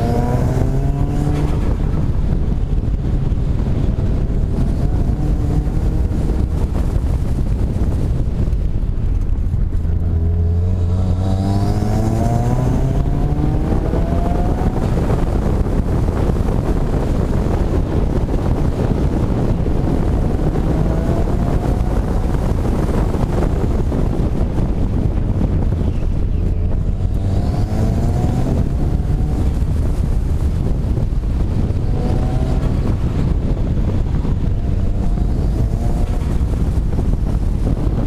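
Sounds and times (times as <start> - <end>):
car engine accelerating: 0.0 - 38.0
heavy wind noise: 0.0 - 38.0.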